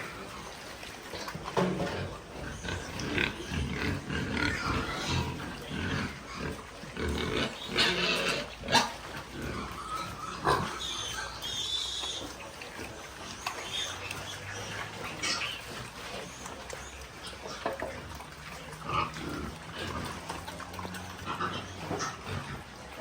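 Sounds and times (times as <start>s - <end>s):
pigs grunting: 0.0s - 23.0s
pigs squealing: 0.0s - 23.0s.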